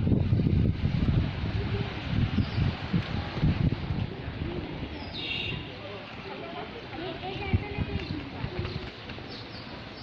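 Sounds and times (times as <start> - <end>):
wind buffeting microphone: 0.0 - 6.2, 6.8 - 10.0
outdoor noise: 0.0 - 10.0.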